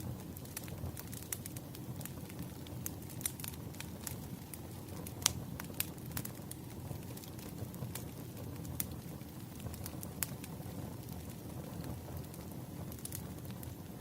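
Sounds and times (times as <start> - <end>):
campfire crackling: 0.0 - 14.0
wood popping in fire: 0.0 - 14.0.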